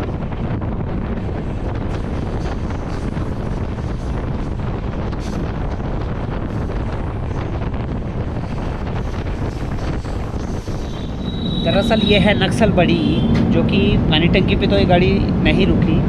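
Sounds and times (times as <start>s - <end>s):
train rumble: 0.0s - 16.0s
wind buffeting microphone: 0.0s - 16.0s.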